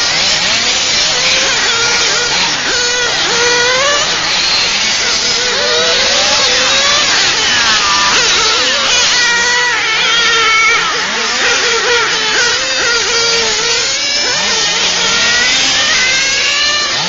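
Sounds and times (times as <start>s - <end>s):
model car engines revving: 0.0s - 17.0s.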